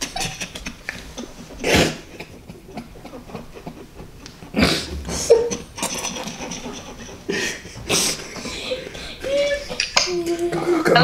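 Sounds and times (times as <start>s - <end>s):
people laughing breathily: 0.0s - 11.0s.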